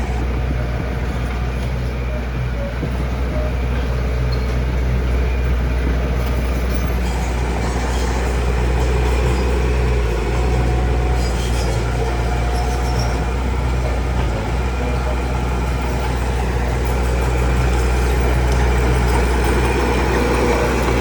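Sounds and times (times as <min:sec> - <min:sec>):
deep diesel engine drone: 0:00.0 - 0:21.0.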